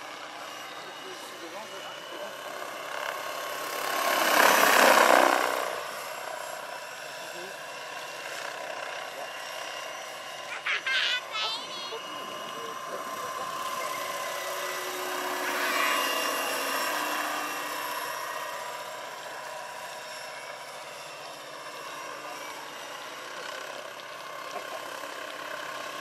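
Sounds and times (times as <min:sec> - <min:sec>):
model helicopter rotor whine: 0:00.0 - 0:26.0.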